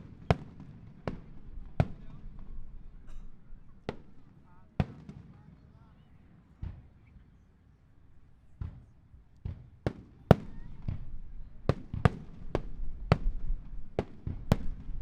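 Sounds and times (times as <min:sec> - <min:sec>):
fireworks bursting with sharp bangs: 0:00.0 - 0:07.2, 0:08.4 - 0:15.0.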